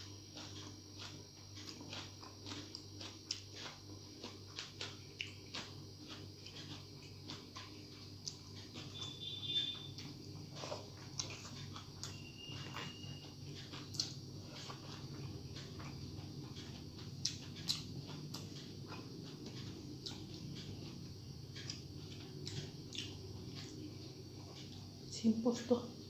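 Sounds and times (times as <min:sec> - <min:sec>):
chewing and mouth noises: 0:00.0 - 0:25.1
steady low hum: 0:00.0 - 0:26.0.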